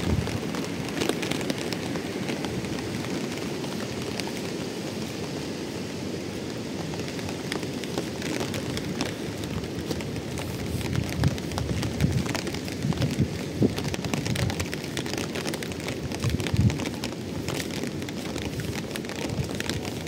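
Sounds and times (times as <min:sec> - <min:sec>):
raindrop ticks: 0:00.0 - 0:05.5, 0:06.4 - 0:20.0
rain and wind rushing: 0:00.0 - 0:20.0.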